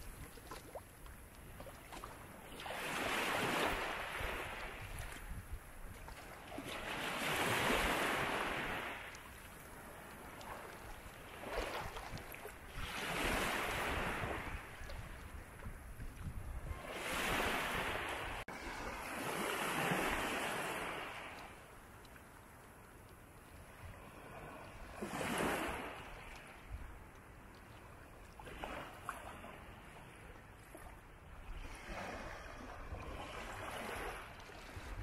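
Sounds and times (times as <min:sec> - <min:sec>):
sea waves breaking: 0:00.0 - 0:21.9, 0:23.6 - 0:27.2, 0:27.8 - 0:35.0.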